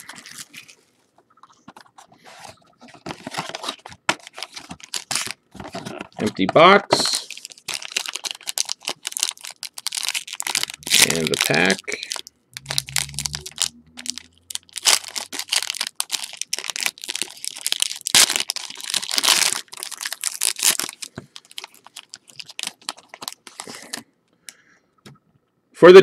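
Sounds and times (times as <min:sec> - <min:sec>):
wrapper tearing and crinkling: 0:00.0 - 0:00.9, 0:03.2 - 0:06.3, 0:07.0 - 0:24.0.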